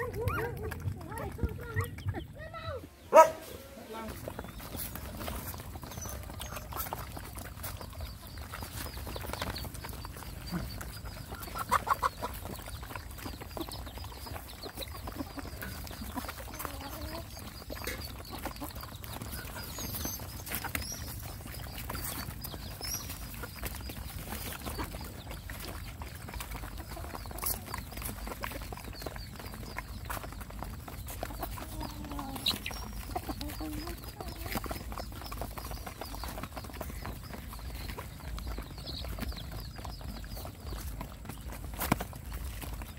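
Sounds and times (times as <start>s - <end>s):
animals pecking and chewing: 0.0s - 42.9s
chicken clucking: 0.0s - 42.9s.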